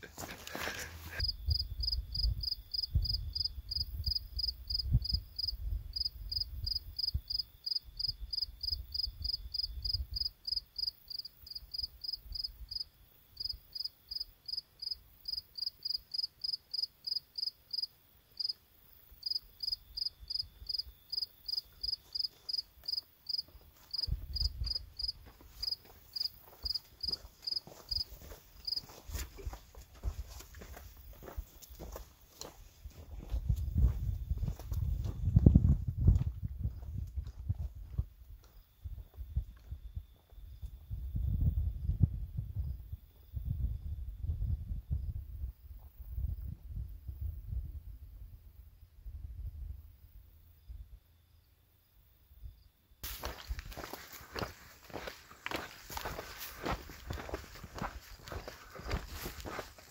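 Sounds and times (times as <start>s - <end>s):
cricket chirping: 0.1s - 59.9s.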